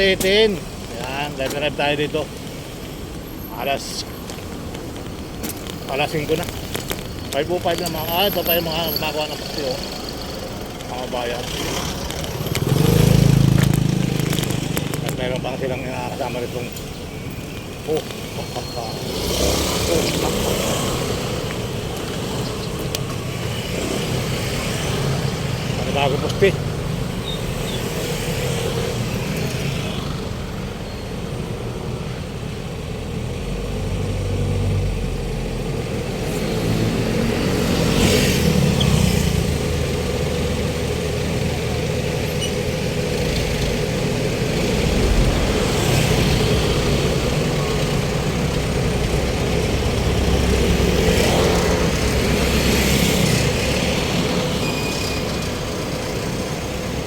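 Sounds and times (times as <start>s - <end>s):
traffic rumble: 0.0s - 57.0s
vehicles passing close by: 0.0s - 57.0s.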